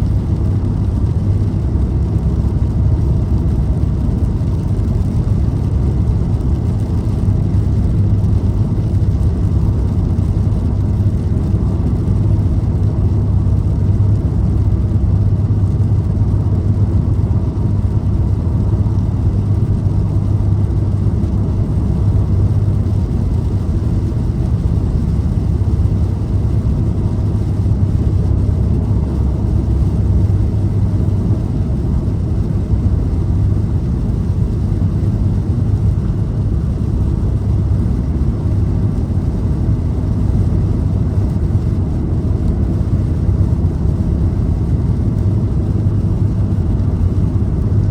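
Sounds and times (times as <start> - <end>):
car cruising rumble: 0.0 - 47.9.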